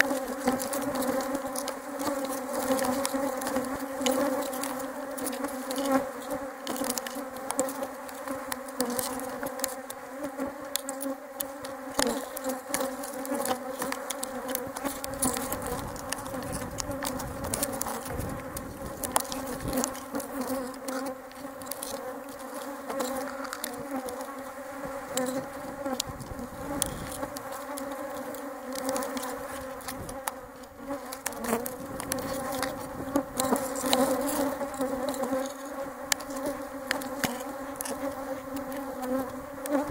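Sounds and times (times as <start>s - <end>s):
small clicks: 0.0s - 10.0s, 10.7s - 24.4s, 25.1s - 39.9s
bees buzzing: 0.0s - 39.9s.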